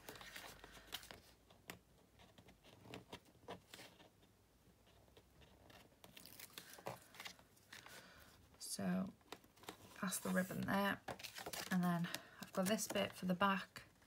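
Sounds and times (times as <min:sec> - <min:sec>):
rustling of cardstock: 0:00.0 - 0:04.2, 0:05.1 - 0:08.5, 0:09.4 - 0:13.3.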